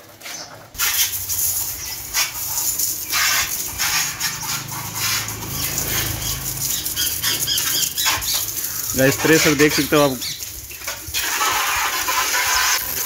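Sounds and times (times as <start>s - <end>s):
water jet hissing and spattering: 0.8s - 13.0s.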